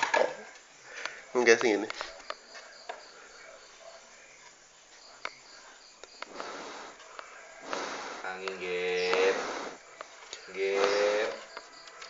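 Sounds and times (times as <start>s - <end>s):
faint cricket chirping: 0.0s - 12.0s.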